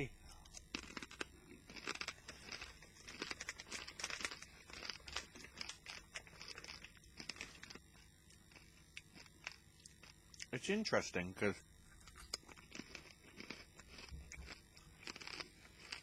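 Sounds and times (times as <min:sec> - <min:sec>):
crunchy food chewing: 0:00.2 - 0:10.6, 0:11.7 - 0:16.0.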